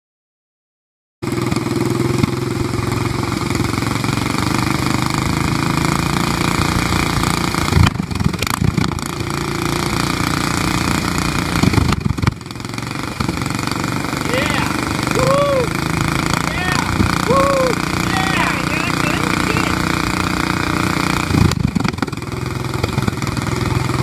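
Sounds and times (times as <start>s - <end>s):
minibike engine puttering: 1.2s - 24.0s.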